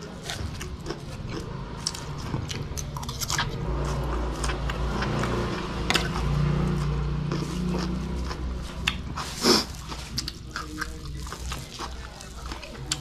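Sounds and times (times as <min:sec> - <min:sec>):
man chewing food: 0:00.0 - 0:13.0.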